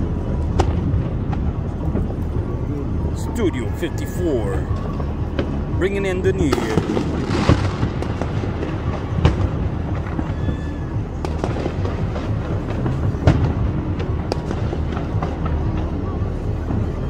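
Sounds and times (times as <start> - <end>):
fireworks booming: 0.0 - 17.0
steady low rumble: 0.0 - 17.0.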